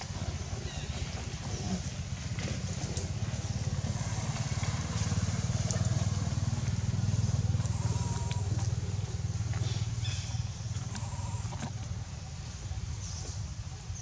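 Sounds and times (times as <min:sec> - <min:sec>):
low engine running: 0:00.0 - 0:14.0.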